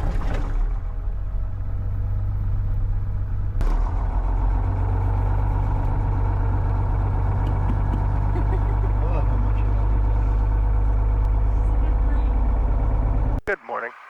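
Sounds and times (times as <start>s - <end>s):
aircraft engine idling: 0.8s - 13.9s.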